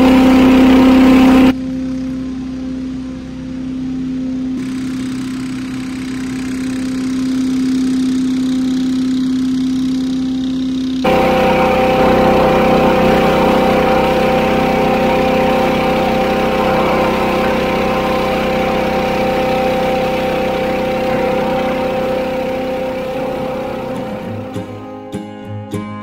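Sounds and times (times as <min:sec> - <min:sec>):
leaf blower engine whine: 0:00.0 - 0:25.1.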